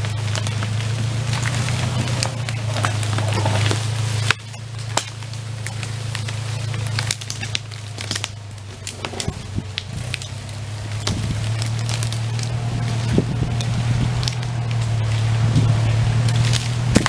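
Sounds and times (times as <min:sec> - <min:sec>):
branches snapping and crackling: 0:00.0 - 0:17.0
tractor engine running: 0:00.0 - 0:17.0.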